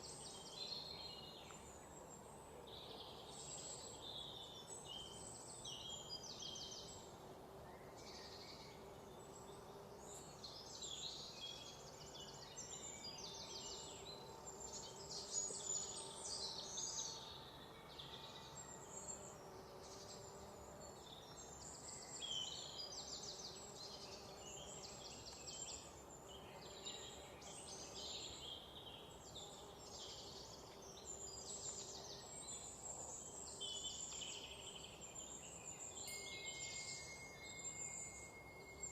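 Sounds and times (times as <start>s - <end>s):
background hiss: 0.0s - 38.9s
songbirds singing: 0.0s - 38.9s.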